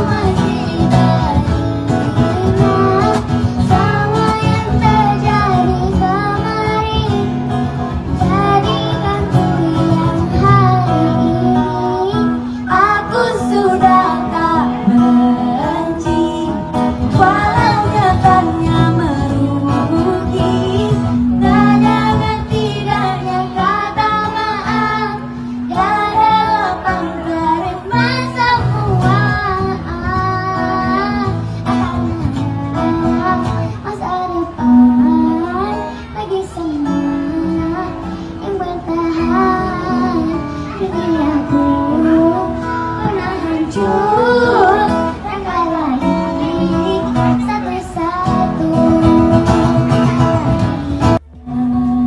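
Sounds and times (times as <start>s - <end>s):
acoustic guitar: 0.0s - 52.0s
girl and woman singing: 0.0s - 52.0s.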